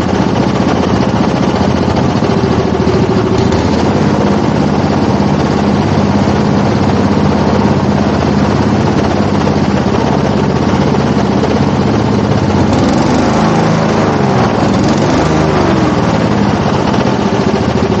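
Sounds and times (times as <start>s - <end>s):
airboat engine and propeller: 0.0s - 18.0s.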